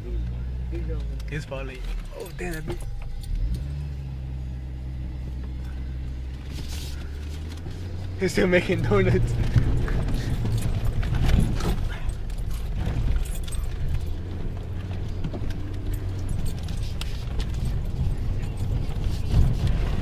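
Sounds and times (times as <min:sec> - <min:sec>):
vehicle engine rumbling: 0:00.0 - 0:20.0
light rattles and clatters: 0:00.2 - 0:20.0.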